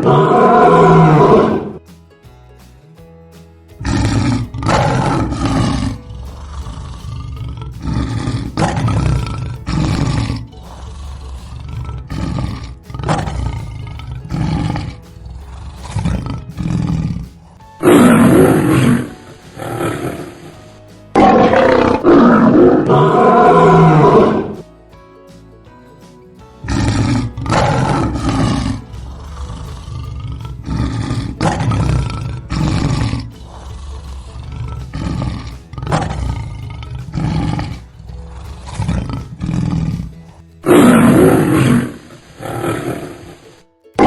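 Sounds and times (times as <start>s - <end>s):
lion roaring: 0.0s - 1.8s, 3.8s - 24.6s, 26.6s - 43.6s.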